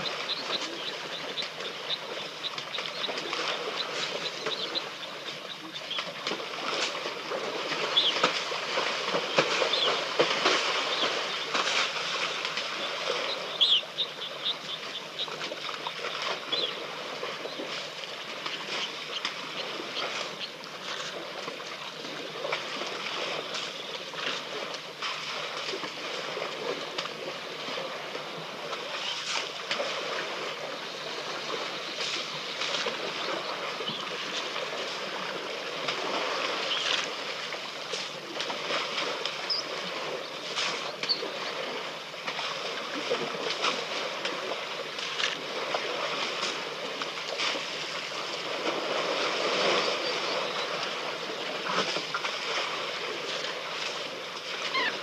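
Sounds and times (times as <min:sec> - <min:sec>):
elephants splashing in mud: 0:00.0 - 0:55.0.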